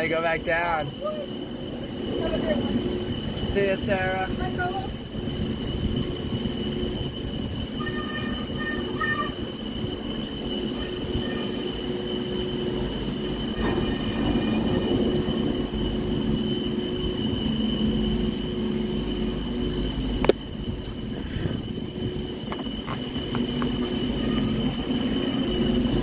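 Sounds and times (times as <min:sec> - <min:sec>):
chairlift machinery rumble and hum: 0:00.0 - 0:26.0.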